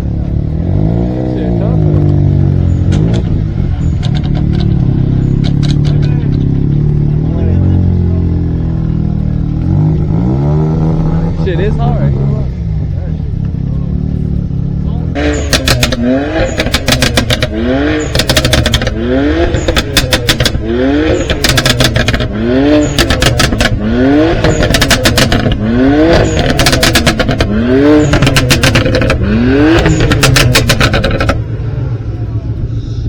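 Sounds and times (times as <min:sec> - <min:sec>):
car engine revving: 0:00.0 - 0:33.0
exhaust crackling: 0:00.0 - 0:33.0.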